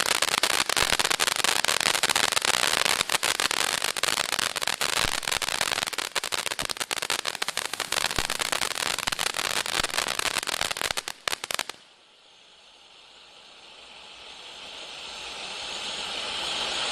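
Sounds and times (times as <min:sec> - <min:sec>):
firework fountain crackling and hissing: 0:00.0 - 0:16.9.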